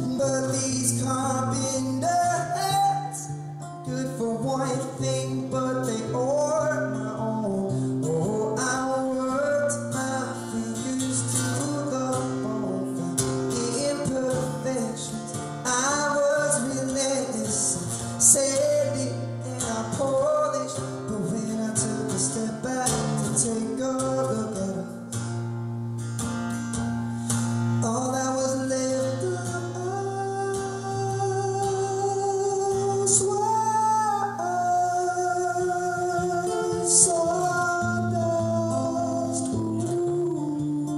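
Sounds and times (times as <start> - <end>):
man singing: 0.0 - 25.2, 27.7 - 40.9
acoustic guitar: 0.0 - 40.9.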